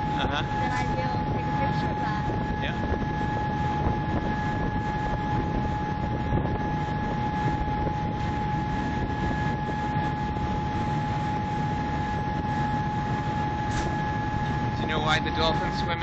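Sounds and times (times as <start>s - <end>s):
constant high whine: 0.0s - 16.0s
ferry engine rumble: 0.0s - 16.0s
water noise: 0.0s - 16.0s
wind: 0.0s - 16.0s.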